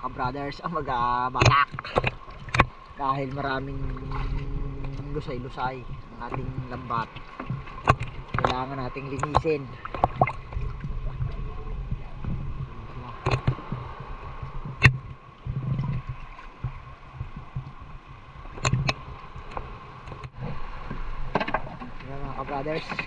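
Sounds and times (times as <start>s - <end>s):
water sloshing against hull: 0.0s - 23.0s.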